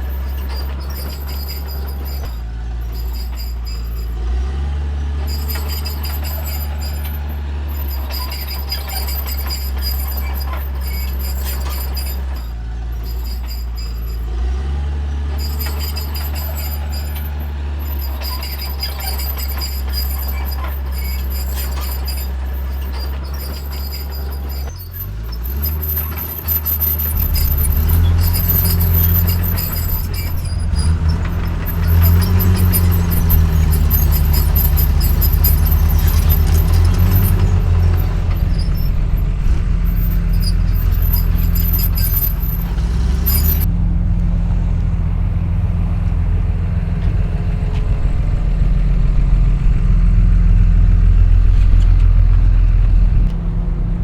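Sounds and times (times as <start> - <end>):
heavy diesel engine revving: 0.0 - 53.9.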